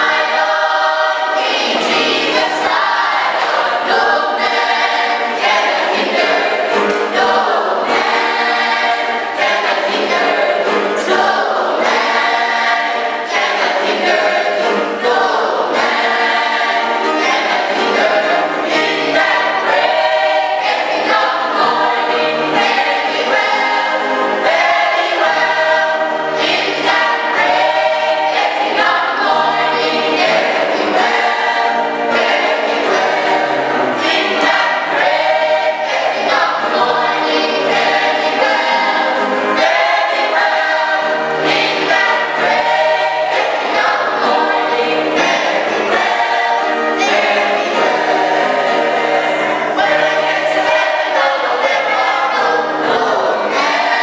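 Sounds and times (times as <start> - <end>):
choir singing gospel music: 0.0 - 54.0.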